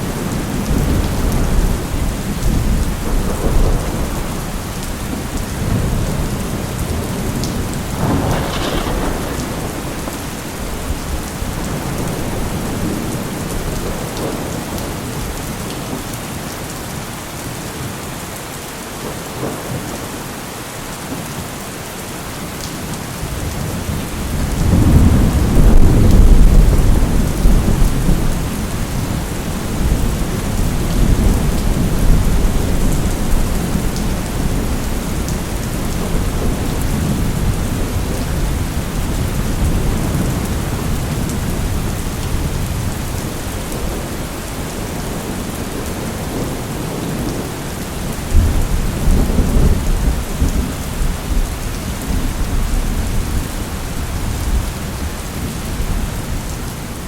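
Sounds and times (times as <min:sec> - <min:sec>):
rolling thunder: 0:00.0 - 0:15.4, 0:23.3 - 0:56.4
steady rain: 0:00.0 - 0:57.0.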